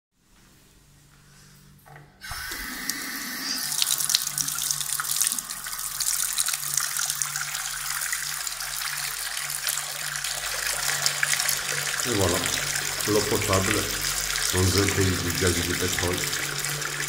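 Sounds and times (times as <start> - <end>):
tap water running into basin: 2.2 - 17.0.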